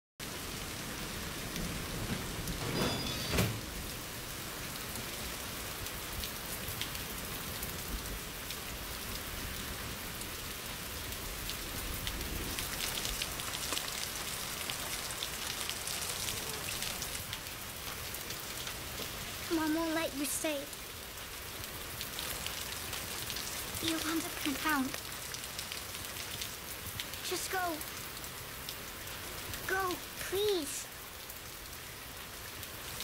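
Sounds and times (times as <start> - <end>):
heavy rain falling: 0.2 - 33.0.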